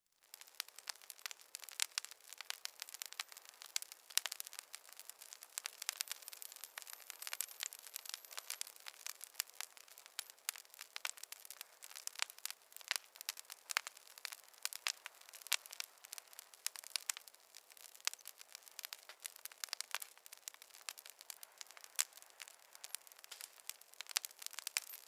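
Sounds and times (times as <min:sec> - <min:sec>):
wood fire crackling: 0:00.2 - 0:25.0.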